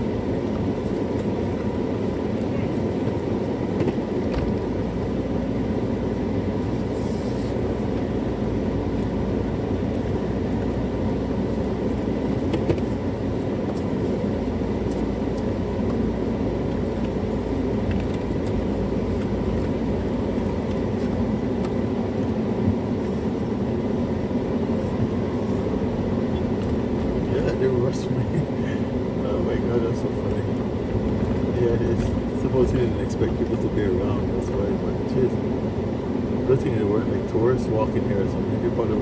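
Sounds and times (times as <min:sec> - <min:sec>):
low mechanical rumble: 0:00.0 - 0:39.0.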